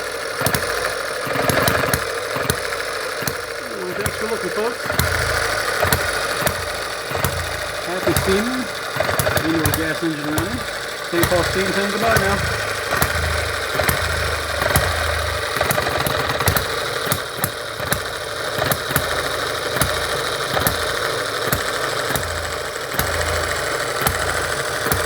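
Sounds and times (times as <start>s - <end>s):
engine low chugging: 0.0s - 25.0s
gas engine sharp clicks: 0.0s - 25.0s.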